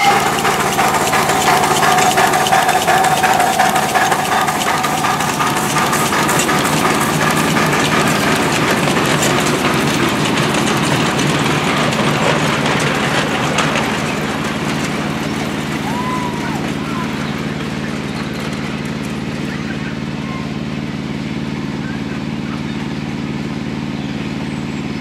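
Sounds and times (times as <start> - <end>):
small locomotive running: 0.0 - 25.0.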